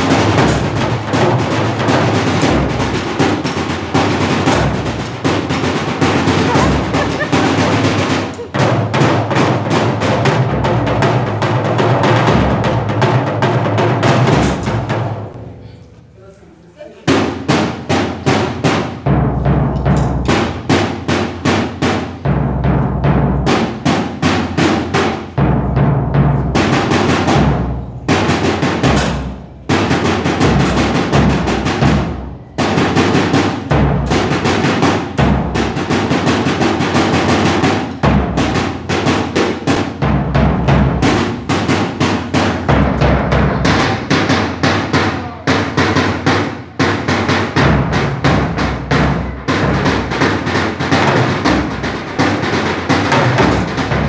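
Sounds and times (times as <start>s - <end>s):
bass drum beats: 0.0s - 15.4s, 22.2s - 54.0s
snare drum rapid strokes: 0.0s - 15.4s, 17.1s - 54.0s.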